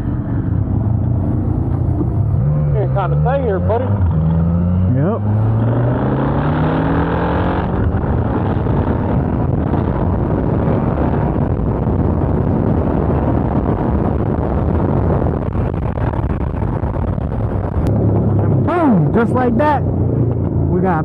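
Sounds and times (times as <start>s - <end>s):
motorcycle engine accelerating: 0.0s - 21.0s
wind noise: 0.0s - 21.0s.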